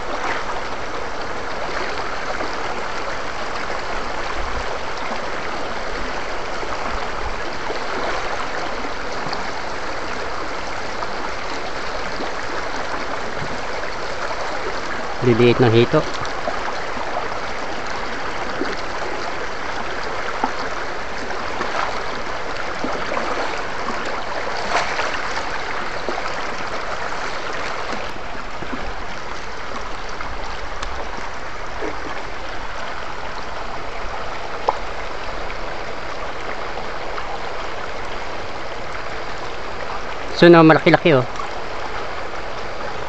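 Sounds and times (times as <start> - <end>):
stream rushing over stones: 0.0 - 43.0.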